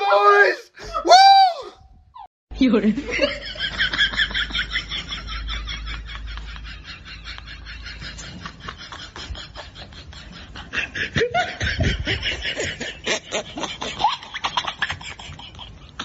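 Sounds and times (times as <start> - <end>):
people laughing and snickering: 3.1 - 16.0.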